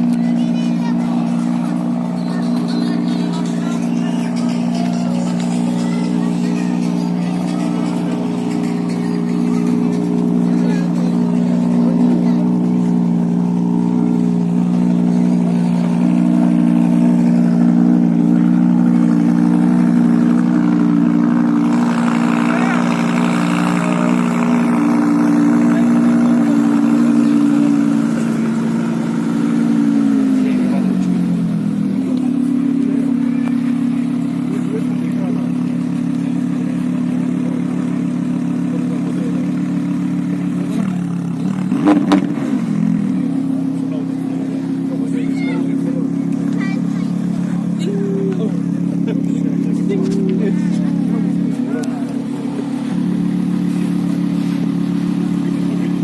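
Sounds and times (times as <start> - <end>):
car engine running steadily: 0.0 - 56.0.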